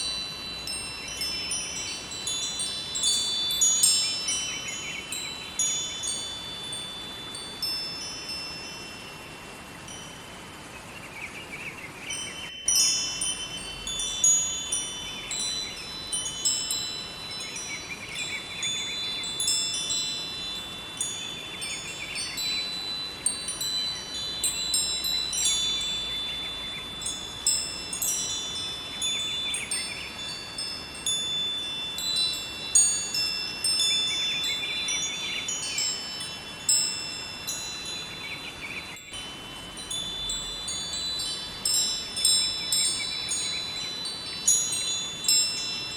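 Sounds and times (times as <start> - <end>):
wind chimes ringing: 0.0 - 10.8, 12.0 - 45.9
river rushing: 0.0 - 45.9.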